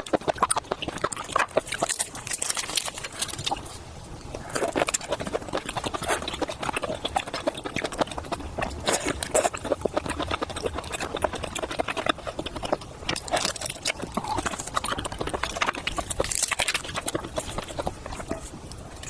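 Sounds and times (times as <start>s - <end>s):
person chewing wetly: 0.0s - 19.0s.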